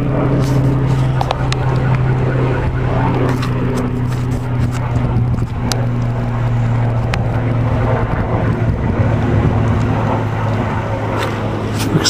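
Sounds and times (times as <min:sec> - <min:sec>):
helicopter rotor and engine drone: 0:00.0 - 0:12.0.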